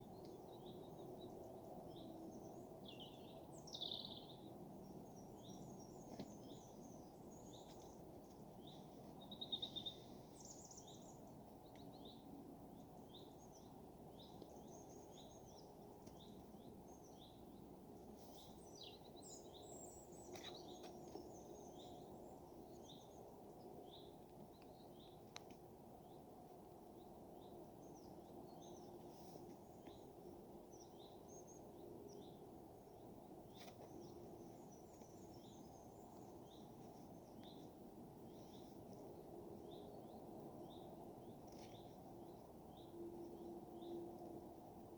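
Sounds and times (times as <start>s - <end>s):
songbird chirps and trills: 0.0s - 44.9s.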